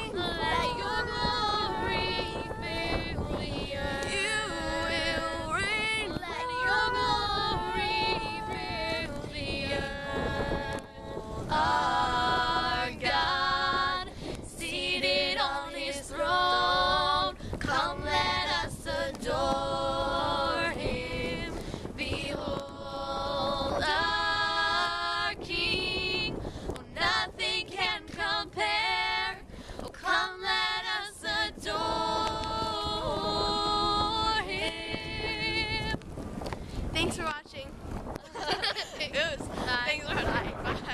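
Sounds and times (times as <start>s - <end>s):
girls singing in harmony: 0.0s - 36.0s
wind rumble on microphone: 0.0s - 40.9s.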